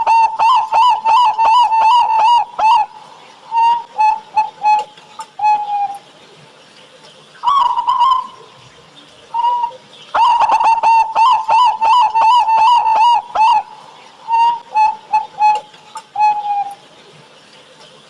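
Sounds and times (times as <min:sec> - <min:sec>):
dove cooing: 0:00.0 - 0:06.1, 0:07.4 - 0:17.3.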